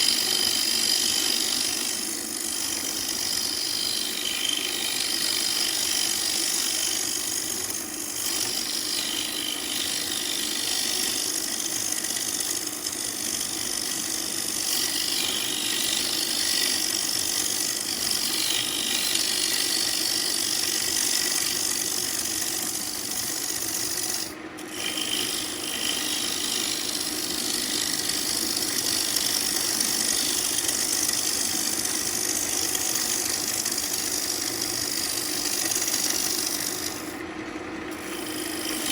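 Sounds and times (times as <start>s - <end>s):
lathe tool scraping wood: 0.0s - 38.9s
wood lathe running: 0.0s - 38.9s.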